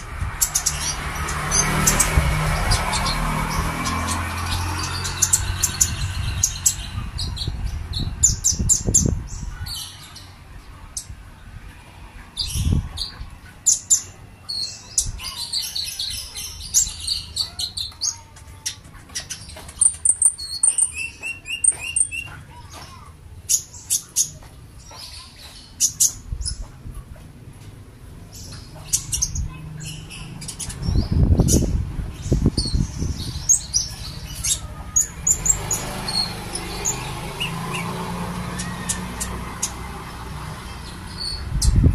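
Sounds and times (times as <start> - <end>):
bird chirping and twittering: 0.0 - 41.9.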